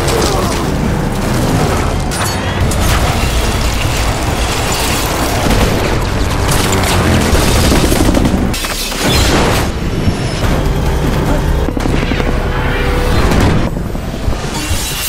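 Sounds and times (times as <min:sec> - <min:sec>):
booming blasts: 0:00.0 - 0:14.5
dramatic score music: 0:00.0 - 0:15.0.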